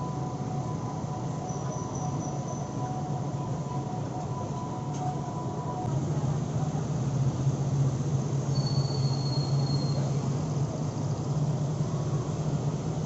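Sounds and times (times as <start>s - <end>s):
large vehicle rumbling: 0.0s - 13.0s.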